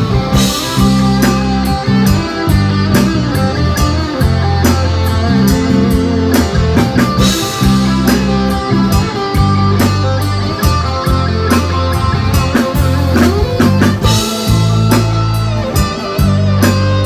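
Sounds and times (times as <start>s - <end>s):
drum kit: 0.0s - 17.0s
electric guitar: 0.0s - 17.0s
heavy bass line: 0.0s - 17.0s.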